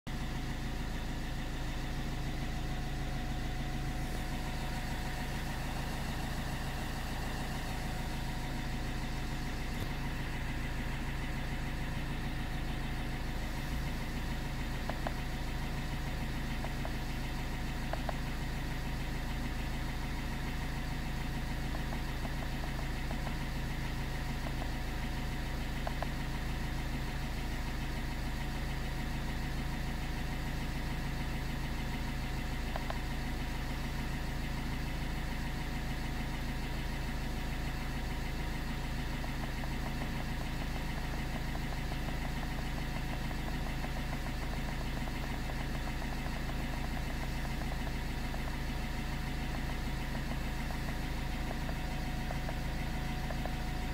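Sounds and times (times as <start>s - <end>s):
car engine idling: 0.1s - 53.9s.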